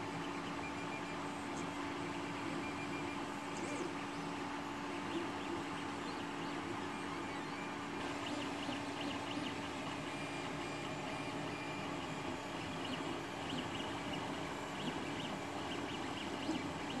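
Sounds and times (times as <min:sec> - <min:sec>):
cooling fans humming: 0:00.0 - 0:17.0.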